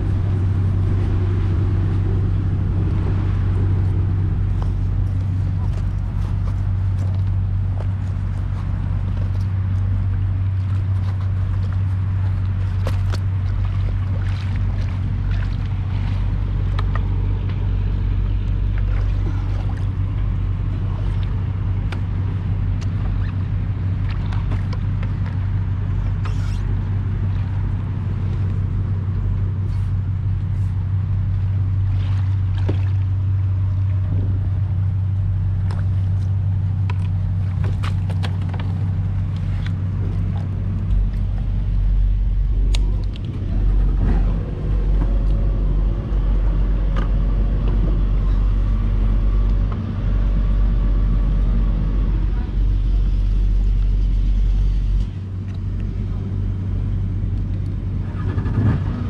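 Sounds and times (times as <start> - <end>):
jet ski engine idling: 0.0 - 59.0.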